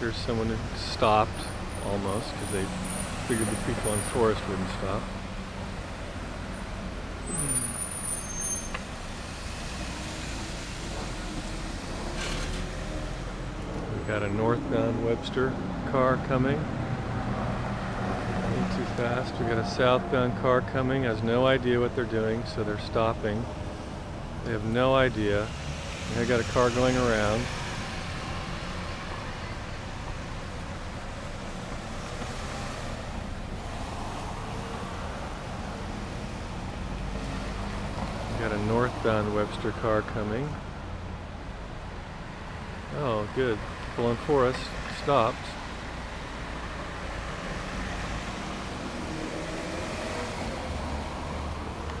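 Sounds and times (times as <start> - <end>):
traffic rumble of engines and tyres: 0.0 - 52.0.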